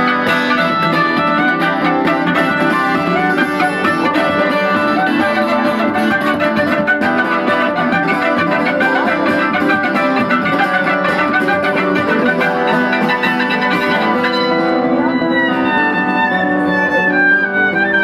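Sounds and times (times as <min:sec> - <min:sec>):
strummed acoustic guitar: 0:00.0 - 0:18.0
violin playing: 0:00.0 - 0:18.0.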